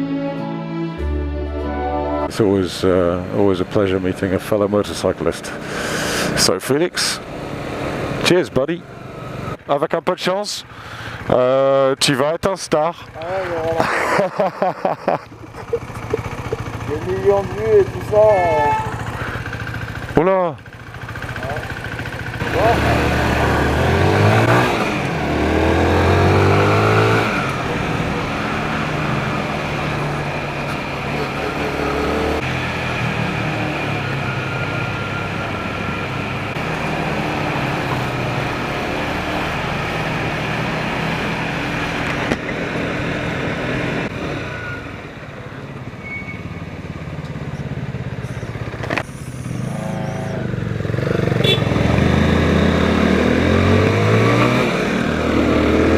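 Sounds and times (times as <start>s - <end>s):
motorcycle engine: 1.0s - 55.9s.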